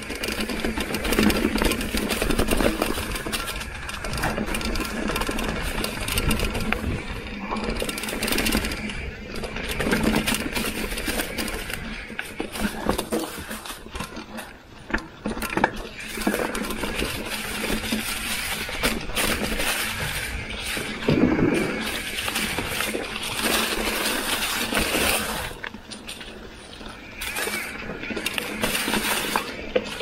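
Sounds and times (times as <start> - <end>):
bike frame rattling and knocking: 0.0 - 30.0
tyres crunching dry leaves: 0.0 - 30.0.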